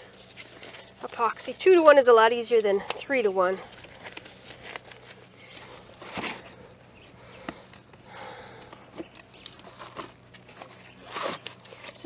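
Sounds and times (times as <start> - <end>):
plastic jugs rustling: 0.0 - 12.0.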